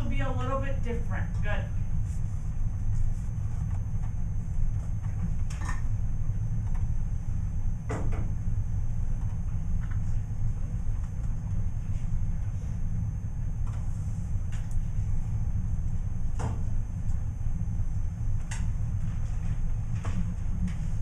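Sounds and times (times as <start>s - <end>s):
classroom low rumble: 0.0s - 21.0s.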